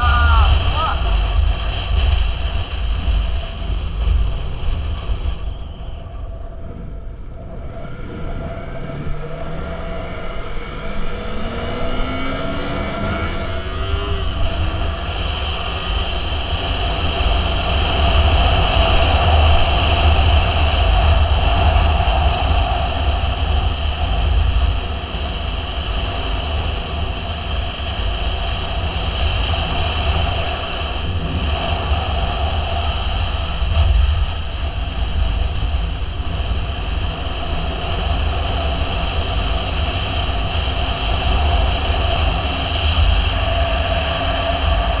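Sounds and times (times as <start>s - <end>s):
motorcycle engine running: 0.0s - 45.0s
wind rumble on microphone: 0.0s - 45.0s.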